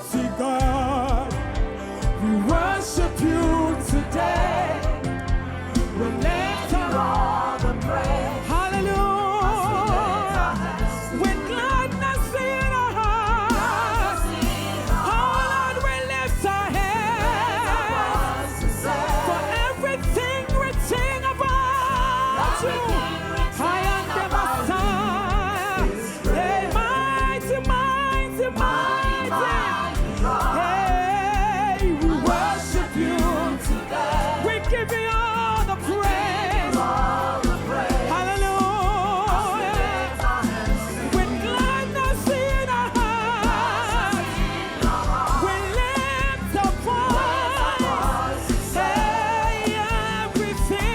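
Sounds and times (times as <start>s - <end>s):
band accompaniment: 0.0s - 50.9s
person singing with vibrato: 0.0s - 50.9s.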